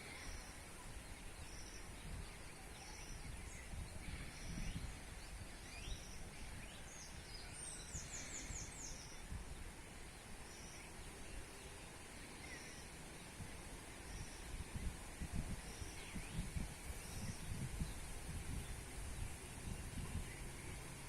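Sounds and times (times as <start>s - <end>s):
low wind rumble: 0.0s - 21.0s
small birds calling: 0.0s - 21.0s.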